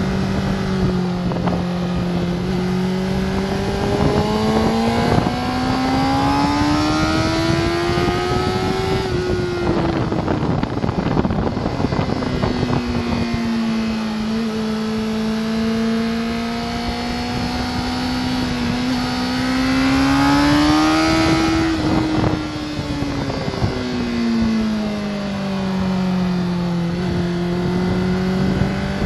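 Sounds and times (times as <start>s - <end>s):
motorcycle engine: 0.0s - 29.0s
rushing wind: 0.0s - 29.0s.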